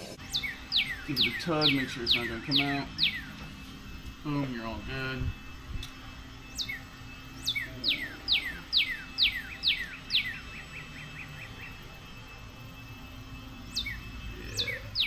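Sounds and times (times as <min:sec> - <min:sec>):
songbird whistling and trilling: 0:00.1 - 0:12.0, 0:13.6 - 0:15.0.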